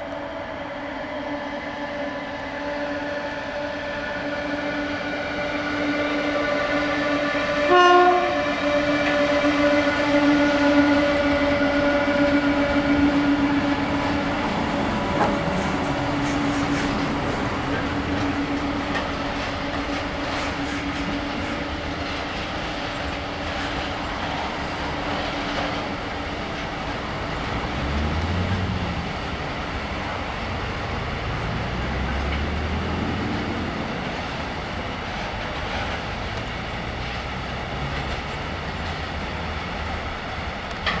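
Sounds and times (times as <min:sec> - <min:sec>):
train wheels rolling on rails: 0:02.2 - 0:41.0.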